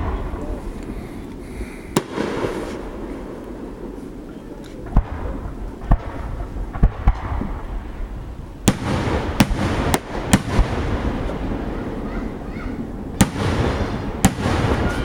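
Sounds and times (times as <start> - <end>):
fireworks bangs: 0.0 - 15.0
fireworks rumble: 0.0 - 15.0.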